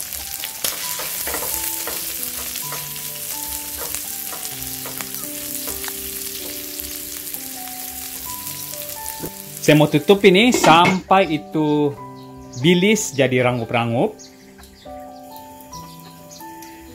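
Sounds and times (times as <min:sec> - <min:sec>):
food sizzling in hot oil: 0:00.0 - 0:12.3, 0:14.2 - 0:16.9.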